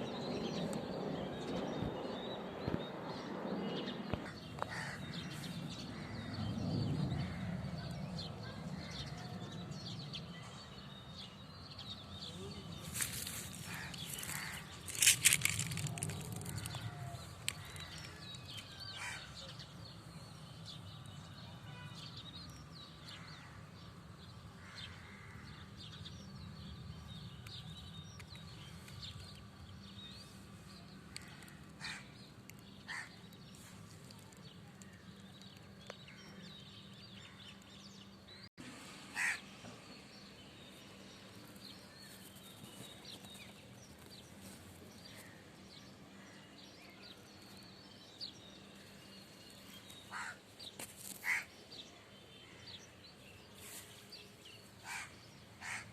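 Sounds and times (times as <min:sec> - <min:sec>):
birds calling: 0:00.0 - 0:55.9.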